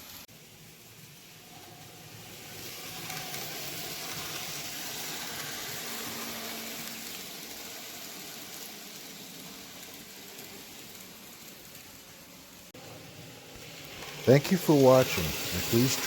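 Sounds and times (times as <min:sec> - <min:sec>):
model train whirring: 0:00.0 - 0:16.0.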